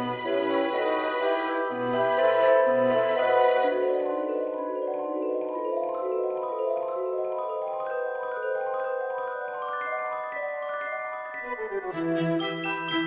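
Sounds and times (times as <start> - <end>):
tuned mallet instrument music: 0.0 - 13.0.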